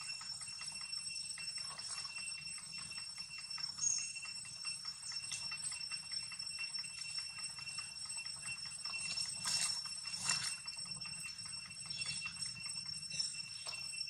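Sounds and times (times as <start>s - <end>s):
steady high-pitched whine: 0.0s - 14.0s.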